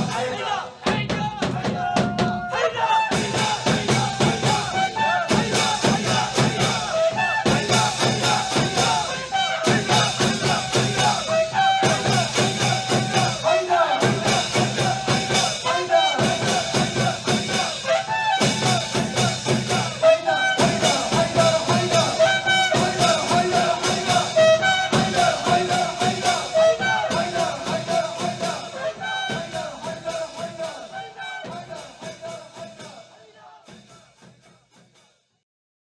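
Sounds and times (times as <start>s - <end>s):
steady drum beat: 0.0s - 34.9s
brass melody: 2.6s - 33.6s.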